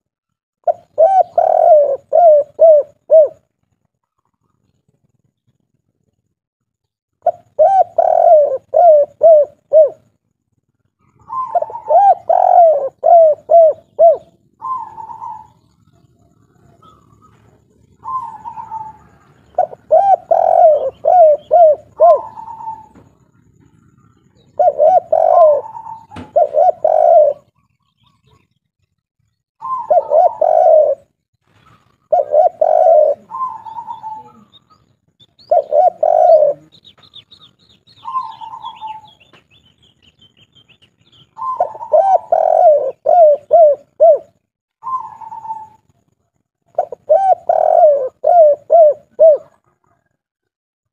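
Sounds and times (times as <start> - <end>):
dove cooing: 0.6 - 3.5, 7.2 - 10.1, 11.0 - 28.5, 29.6 - 50.2.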